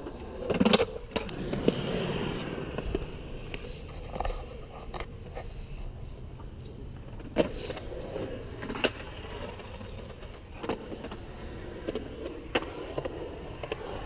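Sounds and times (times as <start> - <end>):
skateboard clacks: 0.0 - 14.0
skateboard wheels rolling on concrete: 0.0 - 14.0.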